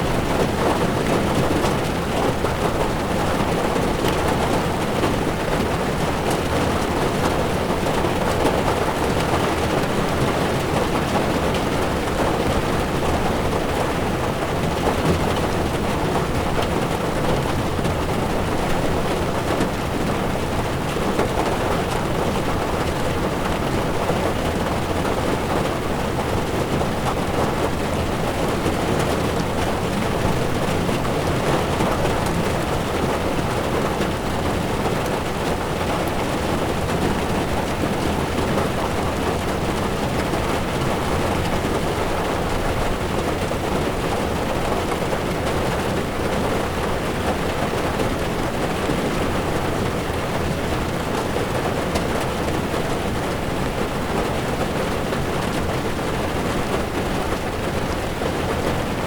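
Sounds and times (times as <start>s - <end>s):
rain on car windshield: 0.0s - 59.0s.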